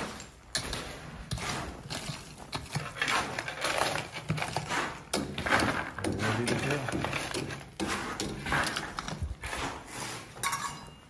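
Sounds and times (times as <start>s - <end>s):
stones crunching and clattering: 0.0s - 10.8s
shovel scraping gravel: 0.0s - 11.0s.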